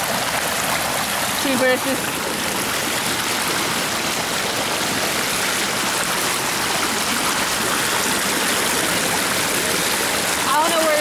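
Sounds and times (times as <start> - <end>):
flooded creek rushing: 0.0 - 11.0.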